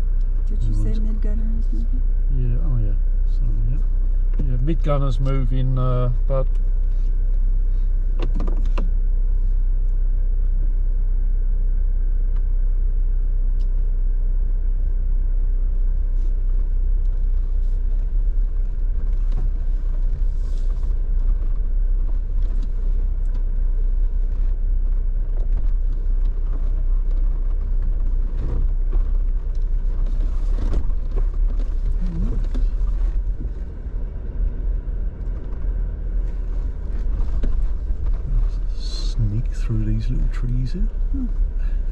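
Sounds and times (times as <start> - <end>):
vehicle rumbling on dirt trail: 0.0 - 41.9.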